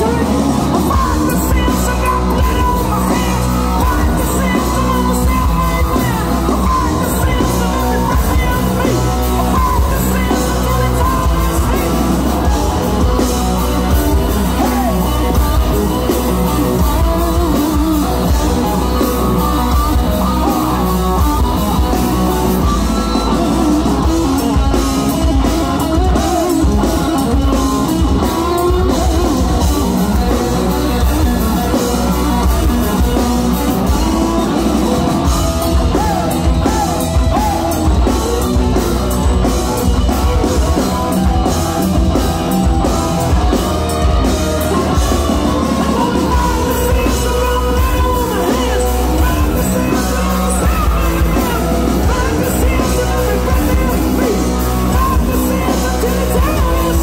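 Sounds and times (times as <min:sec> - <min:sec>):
bass guitar: 0:00.0 - 0:57.0
drum kit: 0:00.0 - 0:57.0
electric guitars: 0:00.0 - 0:57.0
person singing: 0:00.0 - 0:57.0.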